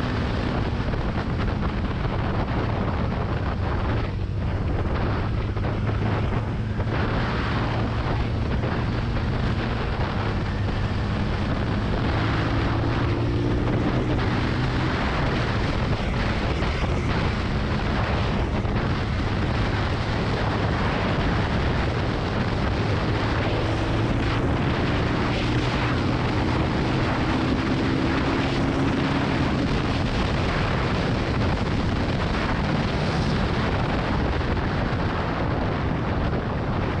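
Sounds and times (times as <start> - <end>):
motorcycle engine running: 0.0 - 37.0
wind rush on microphone: 0.0 - 37.0.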